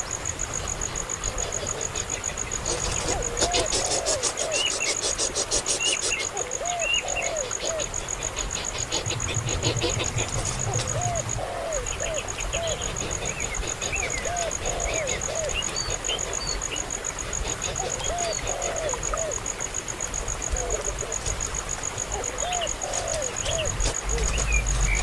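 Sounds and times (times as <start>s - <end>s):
insect trill: 0.0s - 25.0s
birds calling: 1.5s - 19.6s, 22.0s - 25.0s.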